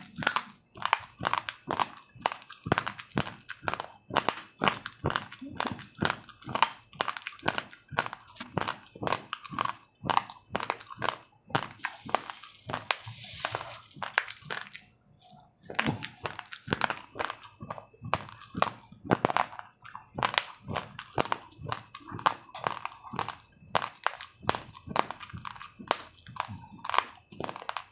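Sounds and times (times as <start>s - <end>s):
crunching rice between teeth: 0.0s - 14.9s, 15.6s - 27.9s.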